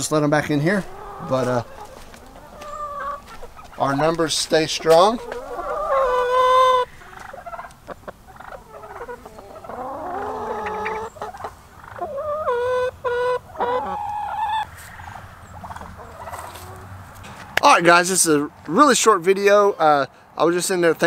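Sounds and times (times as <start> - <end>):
hens squawking: 0.0 - 17.1.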